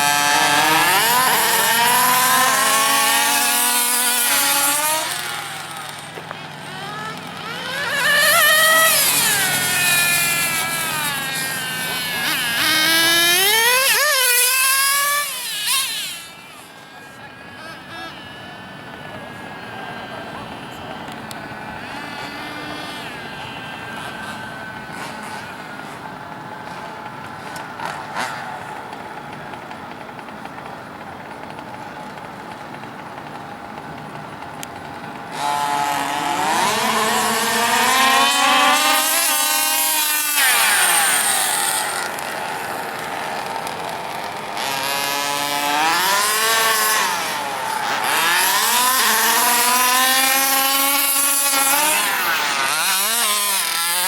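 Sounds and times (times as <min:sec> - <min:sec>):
model car engines revving: 0:00.0 - 0:30.9, 0:33.9 - 0:54.0.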